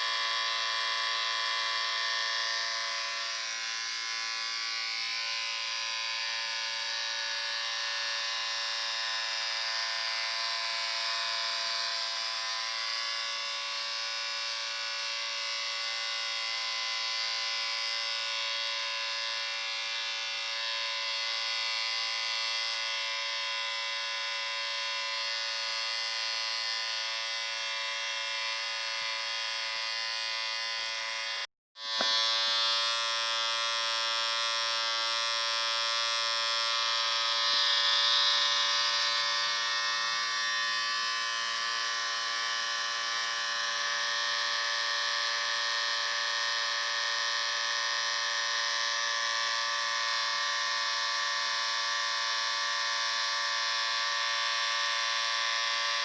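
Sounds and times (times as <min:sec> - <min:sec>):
electric shaver motor buzzing: 0:00.0 - 0:56.0.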